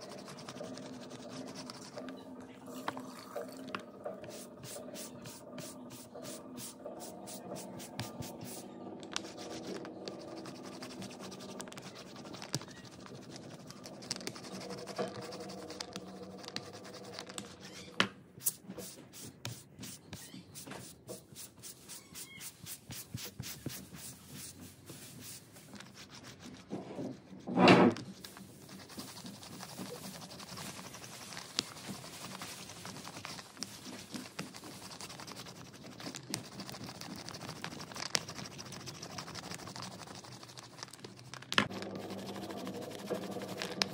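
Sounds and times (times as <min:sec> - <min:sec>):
sponge and roller scraping plate: 0:00.0 - 0:40.9, 0:41.7 - 0:43.9.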